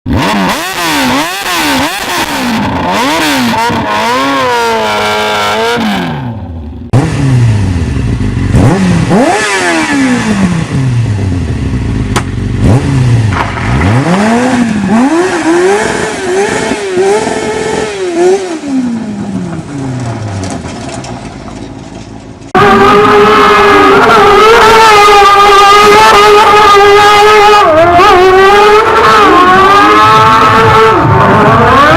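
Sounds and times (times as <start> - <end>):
go-kart engine revving: 0.1 - 21.8, 22.4 - 31.9.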